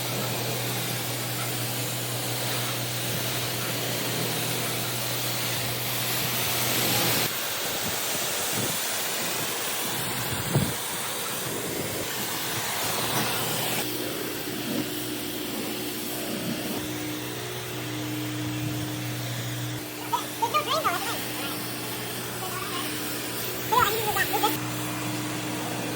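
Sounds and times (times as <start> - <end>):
high-pressure water spray hiss: 0.0 - 25.9
pressure washer engine hum: 0.0 - 25.9.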